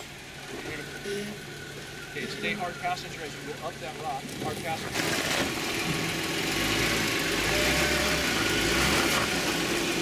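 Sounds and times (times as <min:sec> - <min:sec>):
engine running at low revs: 0:00.0 - 0:10.0.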